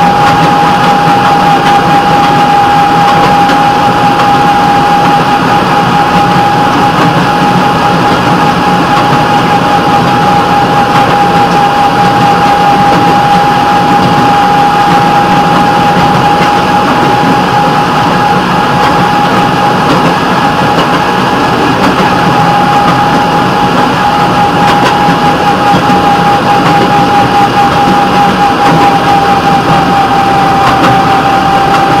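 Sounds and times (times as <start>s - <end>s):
constant whine: 0.0s - 32.0s
rail vehicle running on track: 0.0s - 32.0s.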